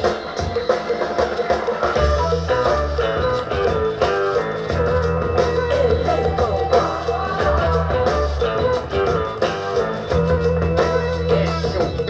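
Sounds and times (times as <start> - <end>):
guitar-led rock music: 0.0 - 12.0.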